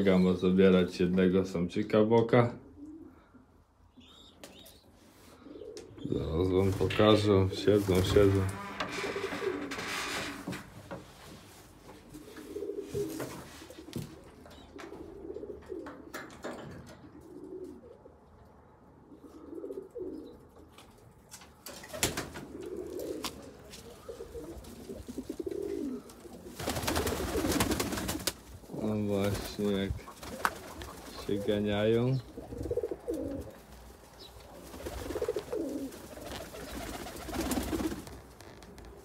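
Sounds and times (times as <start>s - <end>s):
pigeons cooing: 2.6s - 7.2s, 8.0s - 10.0s, 12.0s - 16.2s, 16.8s - 21.0s, 21.8s - 39.0s.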